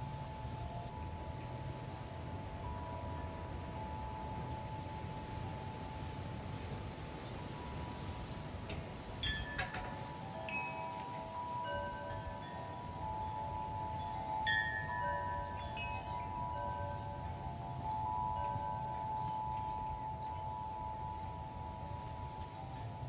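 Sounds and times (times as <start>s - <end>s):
low wind rumble: 0.0s - 23.0s
metal wind chimes ringing: 0.0s - 23.0s.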